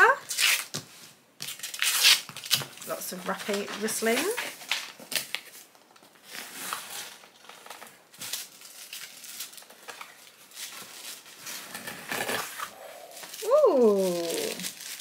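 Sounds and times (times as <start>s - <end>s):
packaging rustling and crinkling: 0.3s - 15.0s.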